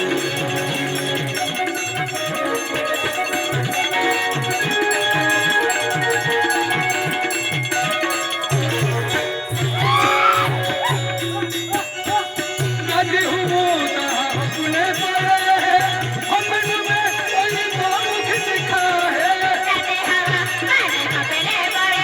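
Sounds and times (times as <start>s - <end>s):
wavering ornamented melody: 0.0s - 21.6s.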